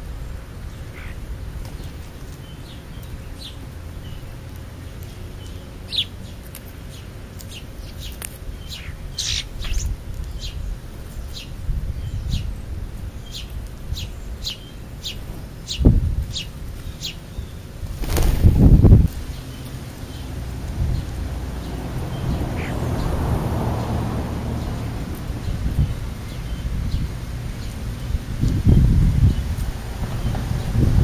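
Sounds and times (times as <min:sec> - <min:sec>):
sparrows chirping: 0:00.2 - 0:31.0.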